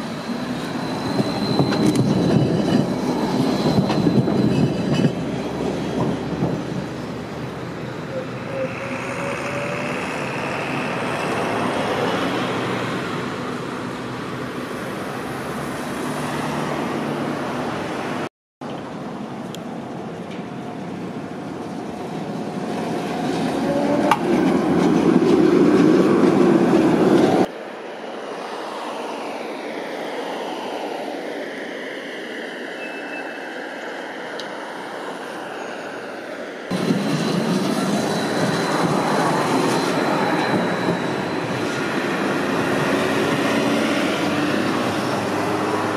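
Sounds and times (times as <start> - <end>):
road traffic: 0.0 - 45.9
tram running: 0.0 - 45.9.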